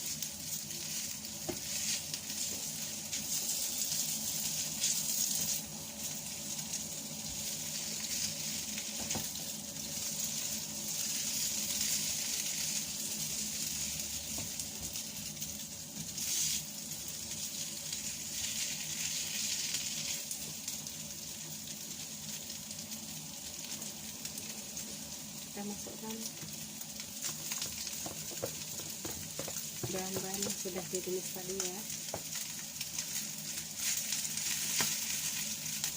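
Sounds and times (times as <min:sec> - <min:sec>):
food sizzling in hot oil: 0:00.0 - 0:35.9.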